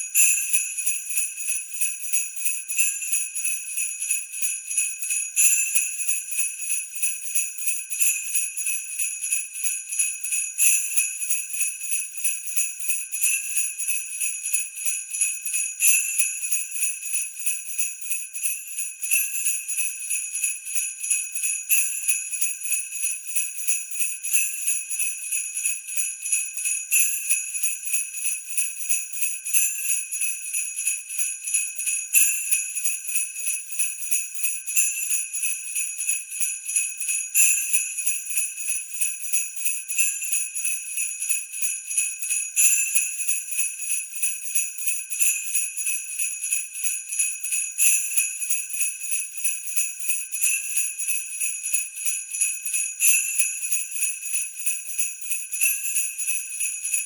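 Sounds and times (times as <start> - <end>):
sleigh bells jingling: 0.0 - 13.6, 14.2 - 57.0.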